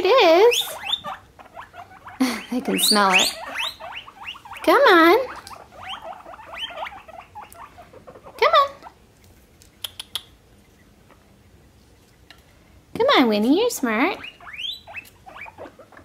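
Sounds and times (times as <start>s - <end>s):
guinea pigs wheeking: 0.0s - 12.3s, 13.8s - 16.0s.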